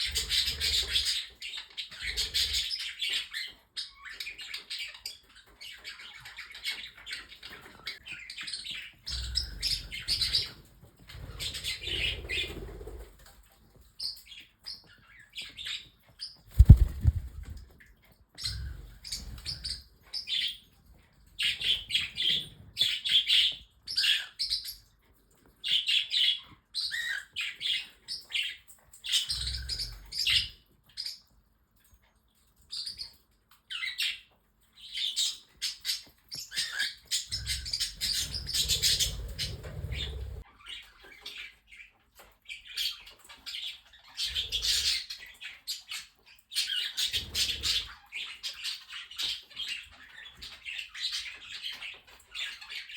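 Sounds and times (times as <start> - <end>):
birds chirping and chattering: 0.0 - 52.9.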